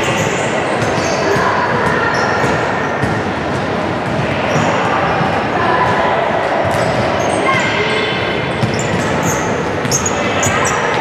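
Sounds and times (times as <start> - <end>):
sneaker squeaks: 0.0 - 5.3, 6.7 - 11.0
players' voices: 0.0 - 11.0.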